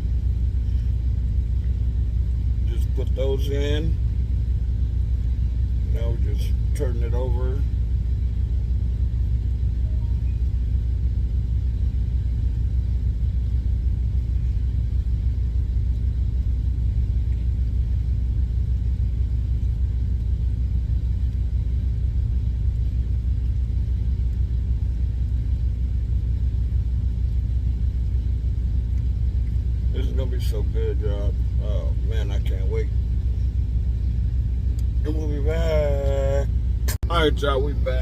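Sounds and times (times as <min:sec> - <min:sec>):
diesel truck engine idling: 0:00.0 - 0:38.0.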